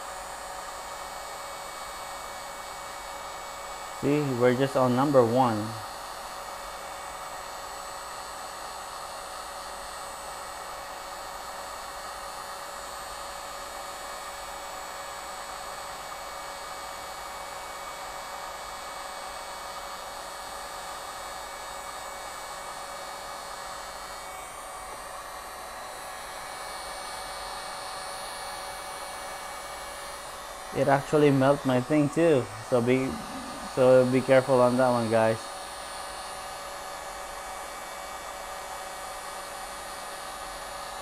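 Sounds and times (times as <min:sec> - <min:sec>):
heat gun blowing hum: 0:00.0 - 0:41.0.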